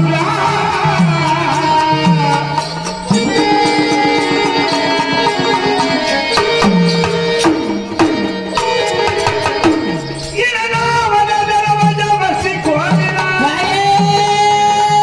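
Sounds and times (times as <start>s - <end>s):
wavering melody line: 0.0s - 13.4s
held sustained notes: 0.0s - 13.9s.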